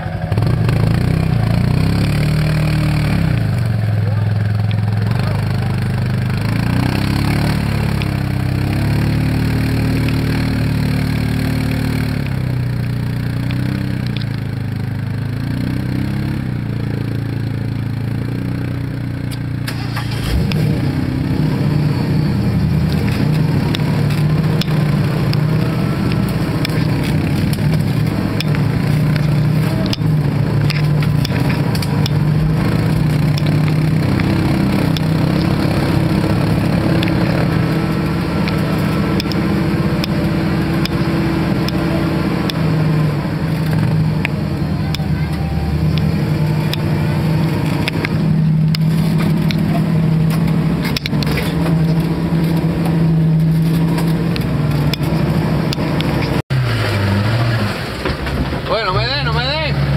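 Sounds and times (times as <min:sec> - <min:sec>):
off-road vehicle engines revving: 0:00.0 - 0:59.9.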